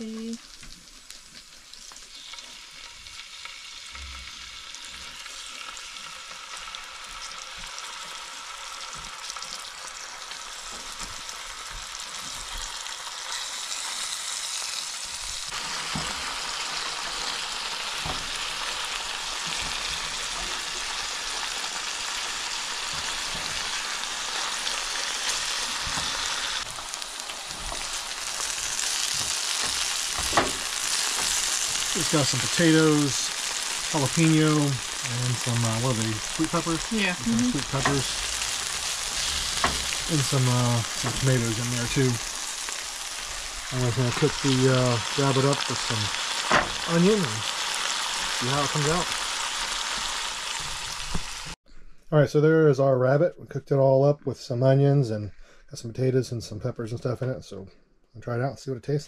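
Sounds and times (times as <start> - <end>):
meat and onions sizzling in skillet: 0.0 - 51.6
potatoes frying in a pan: 0.0 - 51.6.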